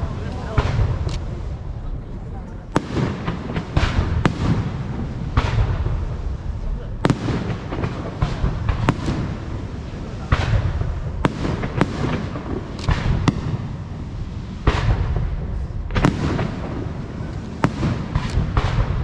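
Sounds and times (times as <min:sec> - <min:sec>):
low rumble and crackle: 0:00.0 - 0:19.0
firework shells bursting: 0:02.7 - 0:13.9, 0:14.6 - 0:19.0.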